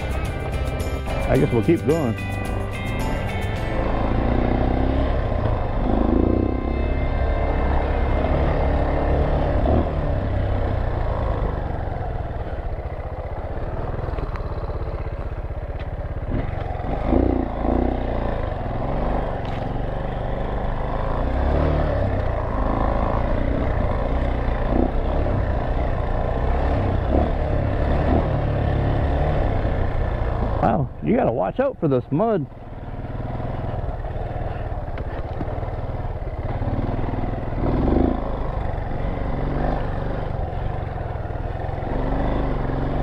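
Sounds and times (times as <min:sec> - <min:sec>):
dirt bike engine running: 0:00.0 - 0:43.0.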